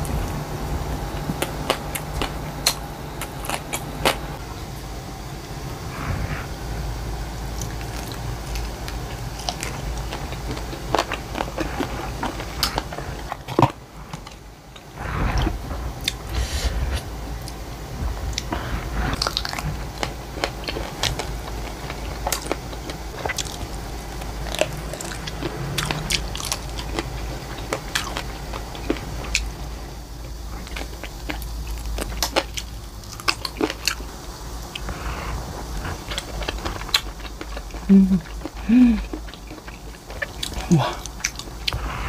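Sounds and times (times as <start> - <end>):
chewing and crunching: 0.0 - 4.4, 7.4 - 42.0.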